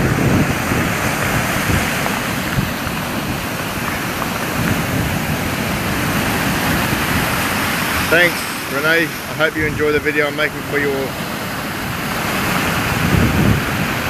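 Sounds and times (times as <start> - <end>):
waves breaking on shore: 0.0 - 14.0.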